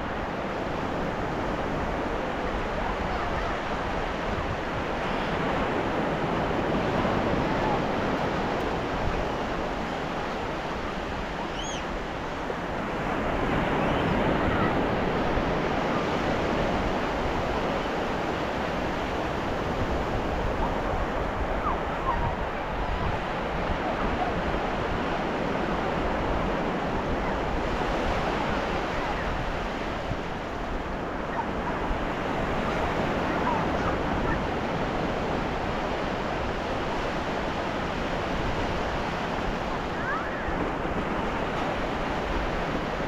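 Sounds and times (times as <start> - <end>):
ocean waves breaking on beach: 0.0 - 43.0.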